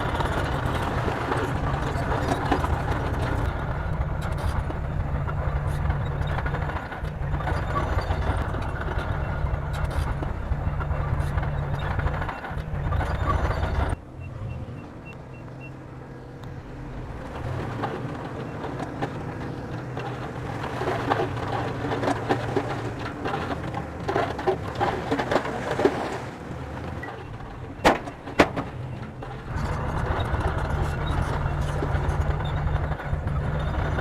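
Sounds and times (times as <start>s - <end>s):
rattling and clanking: 0.0s - 14.0s, 15.8s - 34.0s
bulldozer diesel engine running: 0.0s - 34.0s.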